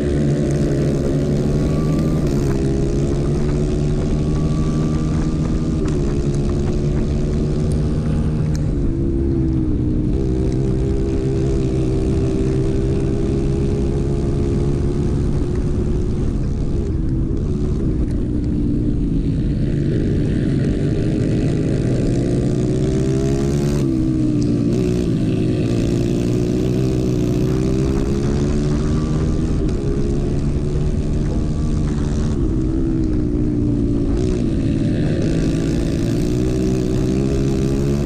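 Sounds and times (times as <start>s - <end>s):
kart engine revving: 0.0s - 38.0s
wind noise: 0.0s - 38.0s.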